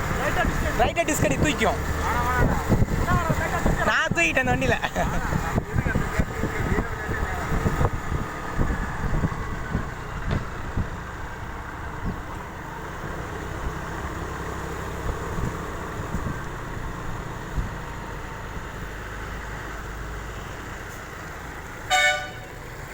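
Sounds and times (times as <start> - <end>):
motorbike running on road: 0.0 - 22.9.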